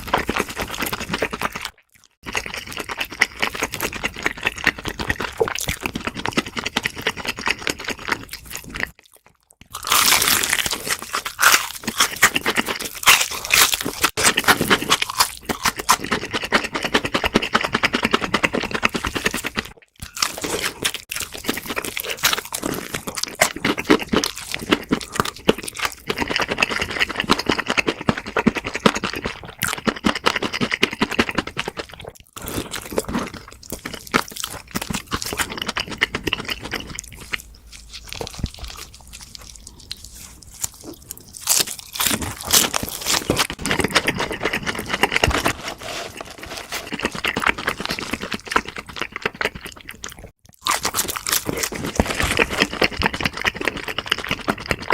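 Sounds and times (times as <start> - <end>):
crunchy bites and chewing: 0.0 - 54.9.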